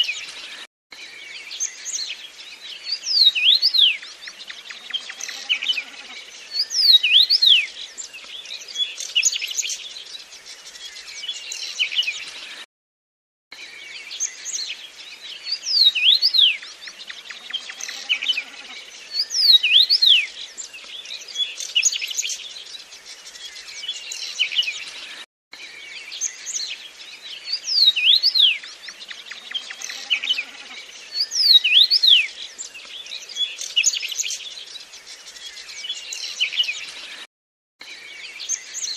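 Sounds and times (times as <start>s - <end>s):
birds calling and twittering: 0.0s - 12.7s, 13.5s - 38.9s.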